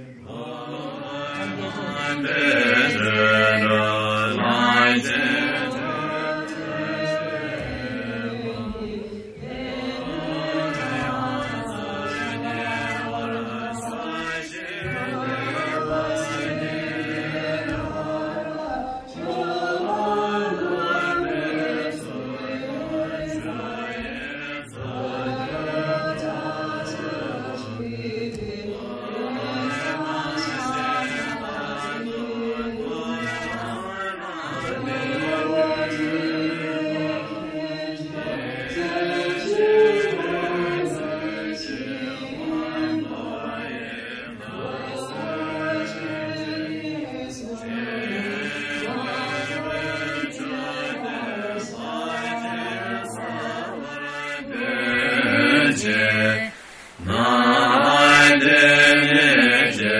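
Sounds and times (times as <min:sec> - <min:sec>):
voices chanting a prayer: 0:00.0 - 0:59.9.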